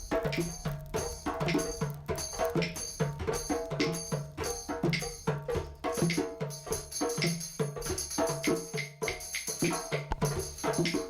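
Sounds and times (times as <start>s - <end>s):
hand drums playing: 0.0s - 11.0s
jingling percussion: 0.0s - 11.0s.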